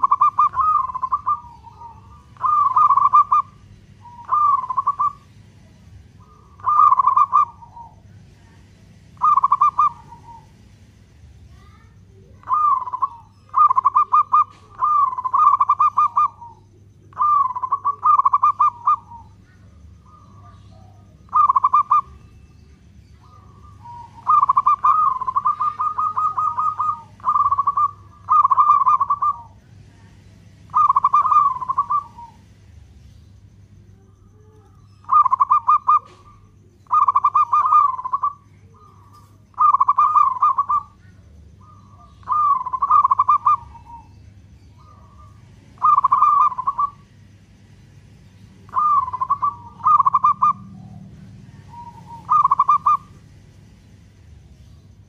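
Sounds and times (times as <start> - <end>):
dove cooing: 0.0 - 10.9, 11.5 - 47.2, 48.3 - 53.6.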